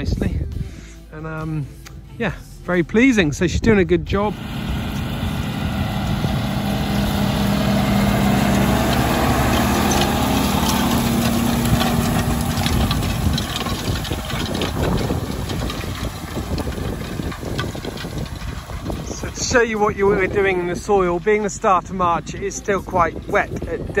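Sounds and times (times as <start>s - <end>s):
tractor diesel engine: 2.7s - 24.0s
cultivator discs clicking and rattling: 4.3s - 24.0s.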